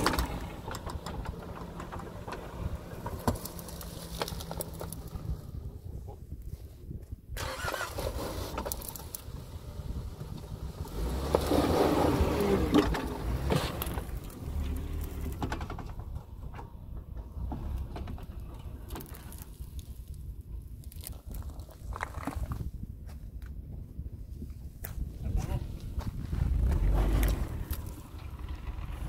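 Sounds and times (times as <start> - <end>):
car engine at low revs: 0.0 - 6.8, 8.0 - 22.6, 25.1 - 29.0.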